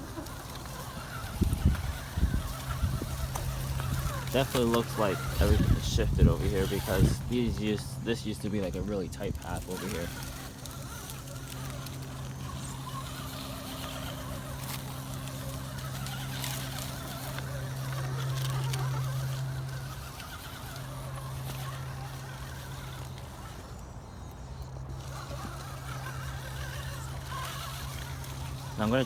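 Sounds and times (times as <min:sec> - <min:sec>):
electric motor whining: 0:00.0 - 0:29.0
tires and chassis clicking: 0:00.0 - 0:29.0.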